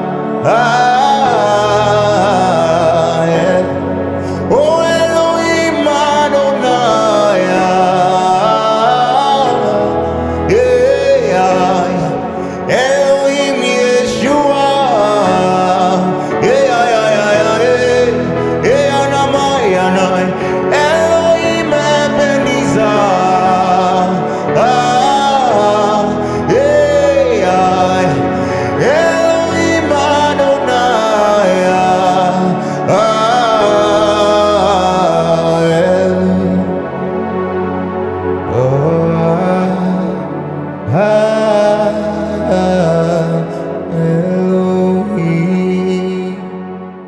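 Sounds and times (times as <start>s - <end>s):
electronic keyboard chords: 0.0s - 47.0s
man singing gospel song: 0.0s - 47.0s.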